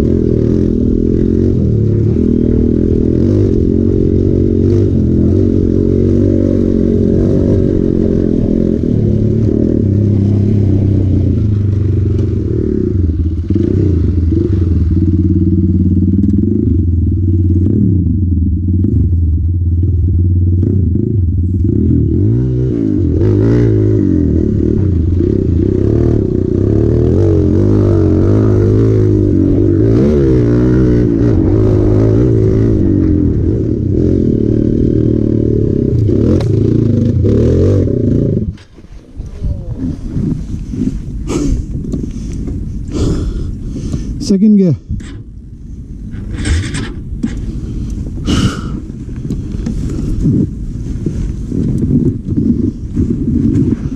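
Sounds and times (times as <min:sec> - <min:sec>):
motorcycle engine revving: 0:00.0 - 0:44.3, 0:44.9 - 0:53.9.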